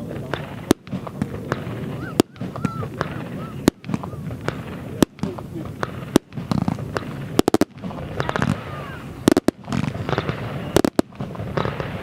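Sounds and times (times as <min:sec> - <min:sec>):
fireworks banging: 0:00.0 - 0:12.0
fireworks crackle: 0:00.0 - 0:12.0.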